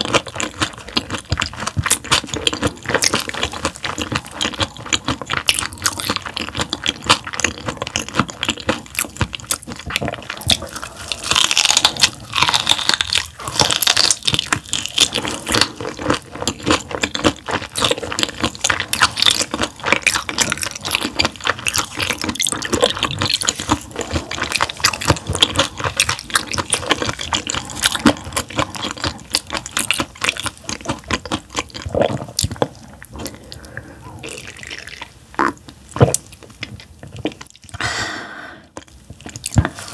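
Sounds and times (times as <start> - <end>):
chewing with crunching clicks: 0.0 - 37.8, 38.8 - 39.9.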